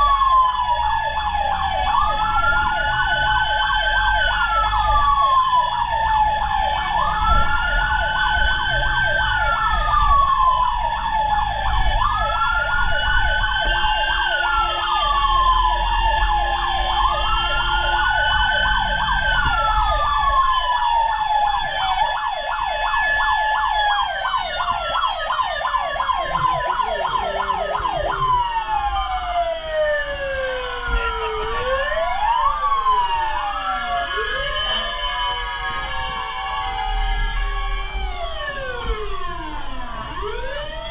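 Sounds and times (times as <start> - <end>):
fire truck sirens: 0.0 - 40.9.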